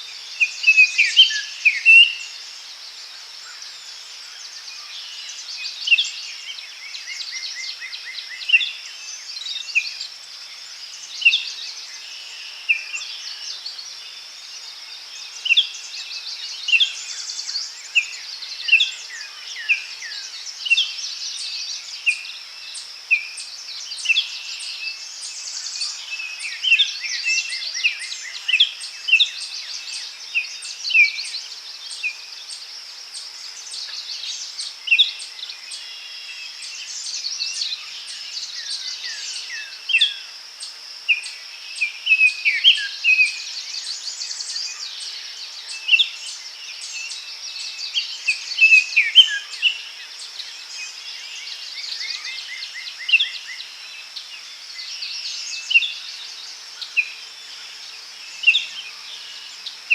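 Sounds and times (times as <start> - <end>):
high insect hum: 0.0 - 59.9.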